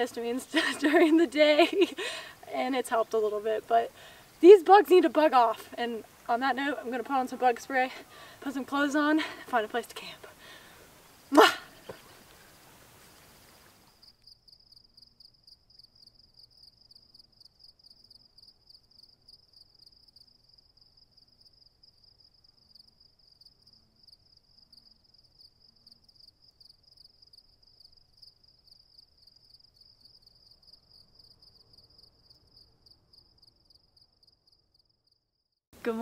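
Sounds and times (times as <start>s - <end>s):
crickets chirping: 0.0s - 35.5s.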